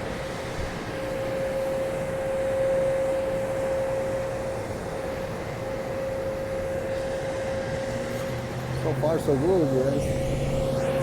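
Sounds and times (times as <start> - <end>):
constant machine whine: 0.0 - 11.0.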